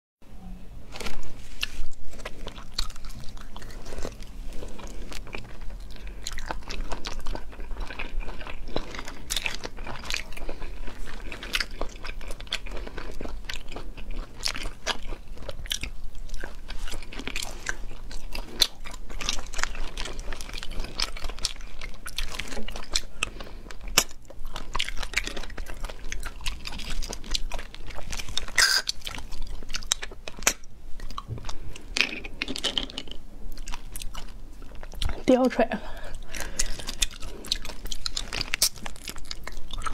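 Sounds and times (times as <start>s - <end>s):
person sucking and chewing snails: 1.0s - 39.9s.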